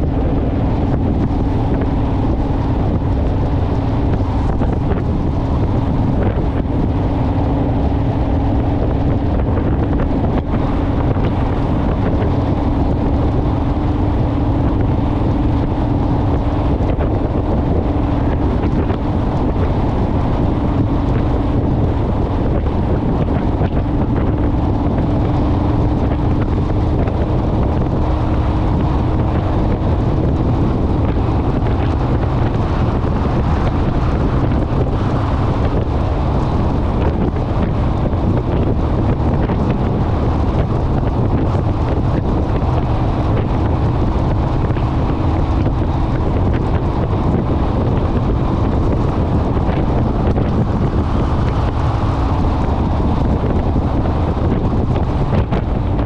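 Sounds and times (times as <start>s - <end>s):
motorcycle engine cruising: 0.0s - 56.0s
wind rumble on microphone: 0.0s - 56.0s.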